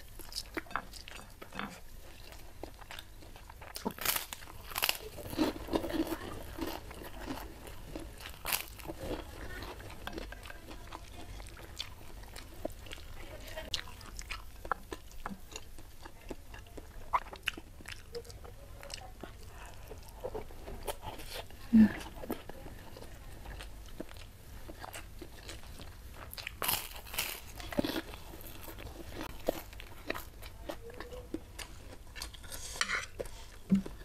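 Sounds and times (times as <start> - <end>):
soft chewing: 0.0 - 34.0
cracker crunching: 1.5 - 15.9, 19.8 - 34.0.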